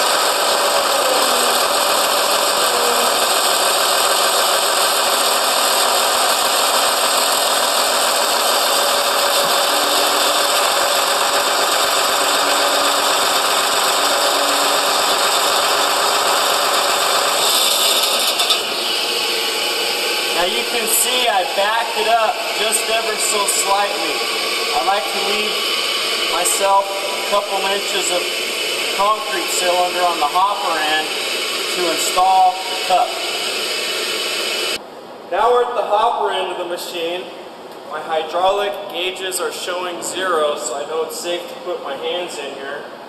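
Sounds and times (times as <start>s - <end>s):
concrete pump engine and hydraulics: 0.0s - 34.8s.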